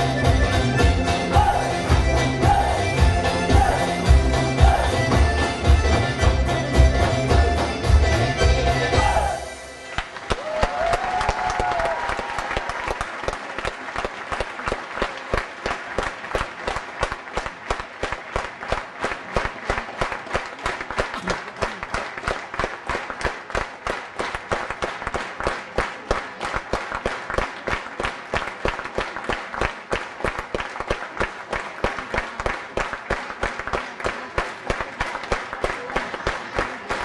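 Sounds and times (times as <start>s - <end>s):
audience clapping in rhythm: 0.0s - 37.0s.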